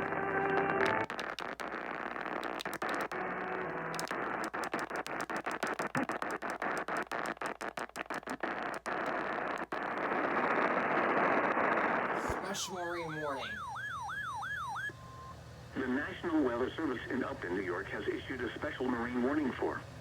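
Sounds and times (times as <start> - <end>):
radio static hiss: 0.0 - 13.6, 15.7 - 20.0.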